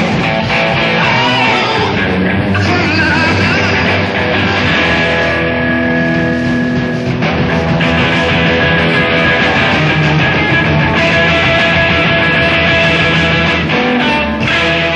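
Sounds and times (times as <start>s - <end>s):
live hard rock band: 0.0s - 14.9s
loud electric guitar: 0.0s - 14.9s.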